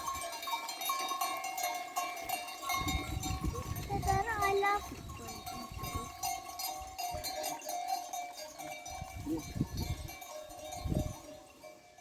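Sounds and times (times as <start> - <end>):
livestock bells clanking: 0.0 - 12.0.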